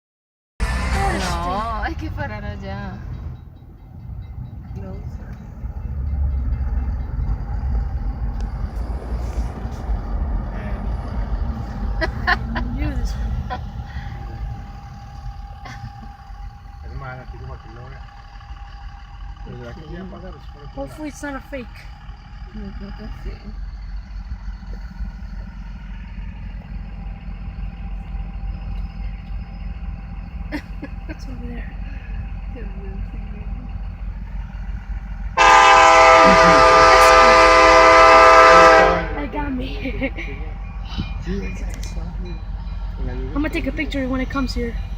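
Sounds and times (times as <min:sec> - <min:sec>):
motor vehicle engine rumble: 0:00.6 - 0:44.9
road noise: 0:00.6 - 0:44.9.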